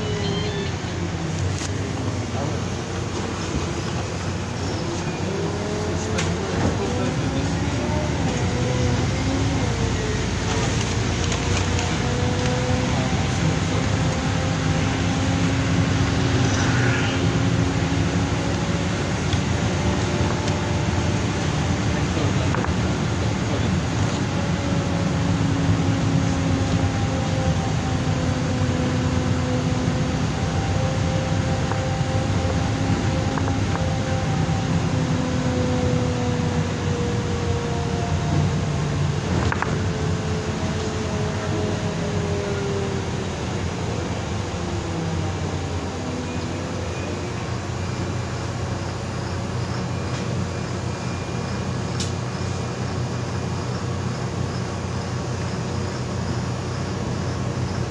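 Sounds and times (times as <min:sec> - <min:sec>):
bus engine hum: 0:00.0 - 0:57.9
tyre and road noise: 0:00.0 - 0:57.9.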